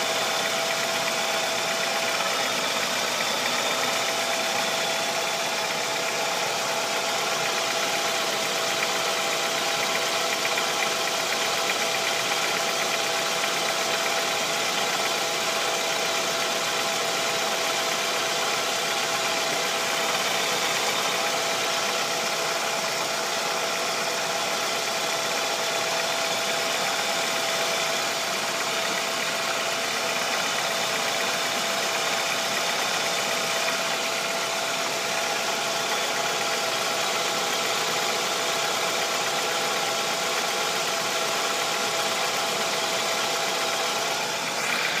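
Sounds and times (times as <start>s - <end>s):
car engine idling: 0.0s - 45.0s
engine knocking: 0.0s - 45.0s.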